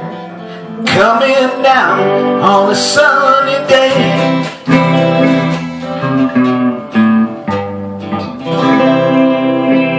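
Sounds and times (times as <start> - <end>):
guitar strumming chords: 0.0 - 9.9.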